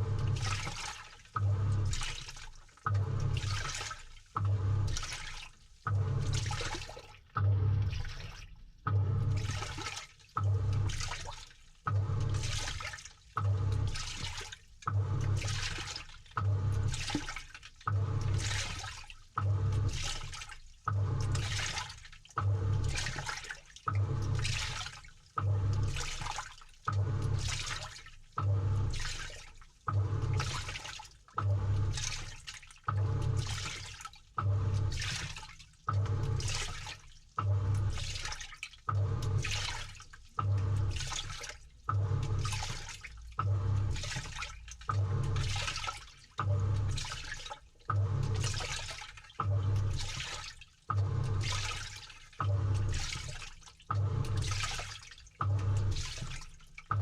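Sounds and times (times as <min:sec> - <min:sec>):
sloshing water and clothes: 0:00.0 - 0:57.0
washing machine motor hum: 0:00.0 - 0:57.0.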